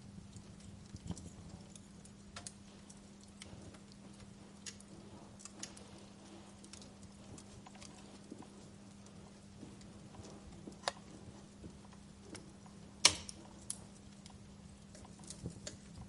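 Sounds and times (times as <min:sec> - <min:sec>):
steady low hum: 0:00.0 - 0:16.0
wood fire crackling: 0:00.0 - 0:16.0.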